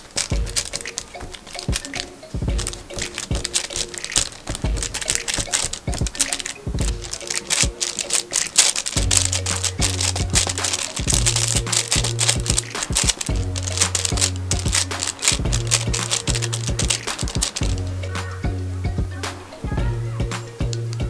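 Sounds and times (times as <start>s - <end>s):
fingertips tapping dough: 0.0s - 18.3s
paper crinkling: 0.0s - 18.3s
quiet background music: 0.0s - 21.0s.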